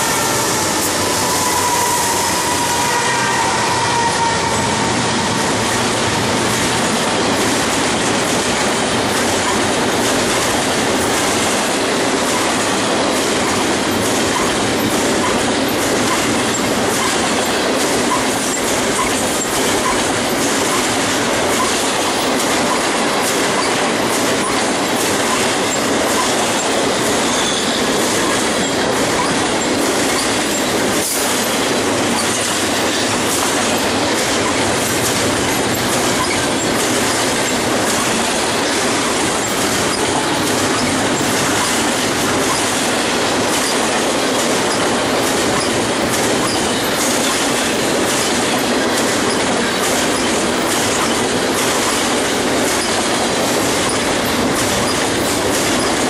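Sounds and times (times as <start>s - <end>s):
steel wheels rumbling on rail: 0.0s - 56.0s
train wheel clacks: 0.0s - 56.0s.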